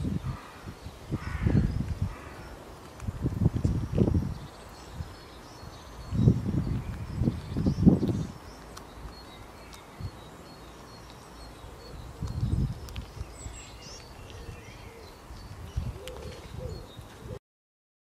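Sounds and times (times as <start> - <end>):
small birds chirping: 0.0 - 17.4.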